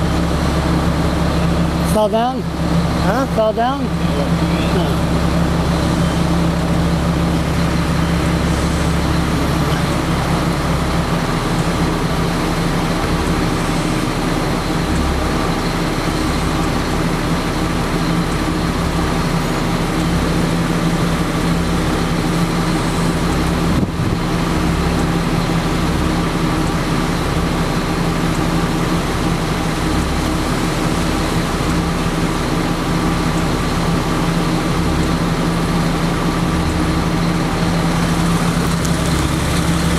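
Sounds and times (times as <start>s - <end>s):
engine hum: 0.0s - 39.9s
road traffic noise: 0.0s - 39.9s.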